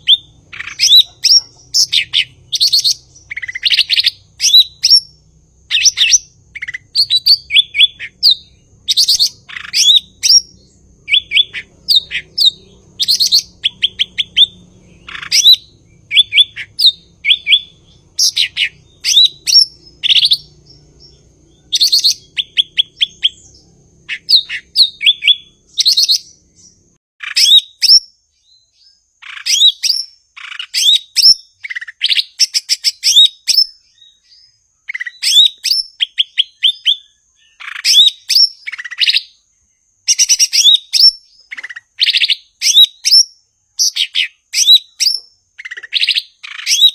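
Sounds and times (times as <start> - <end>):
bird singing chirps and whistles: 0.0 - 46.9.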